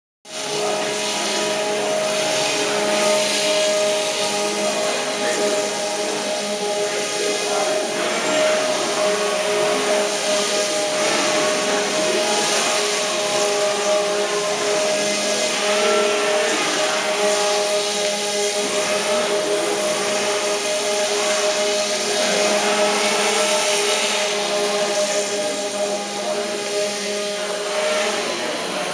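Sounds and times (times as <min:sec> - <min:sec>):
electric motors whining: 0:00.3 - 0:28.9.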